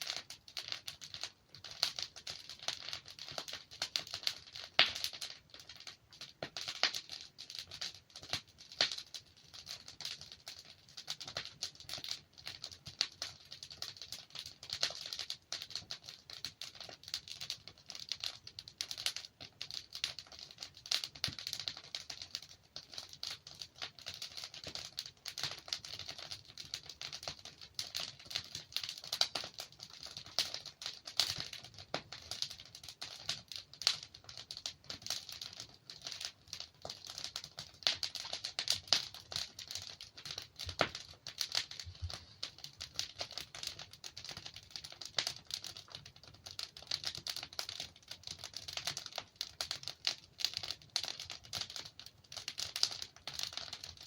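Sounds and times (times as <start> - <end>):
fireplace fire crackling and popping: 0.0 - 54.0.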